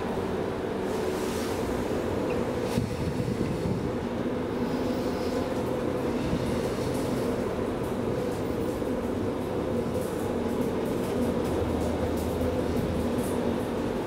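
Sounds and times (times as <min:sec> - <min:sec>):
elevator machine hum: 0:00.0 - 0:14.0.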